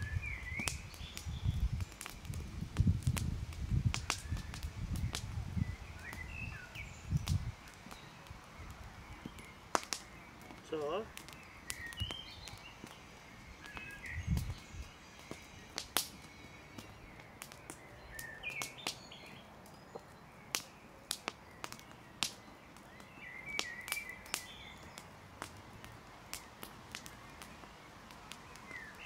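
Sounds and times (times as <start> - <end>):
birds chirping: 0.0 - 2.4, 3.9 - 29.0
campfire crackling and popping: 0.0 - 29.0.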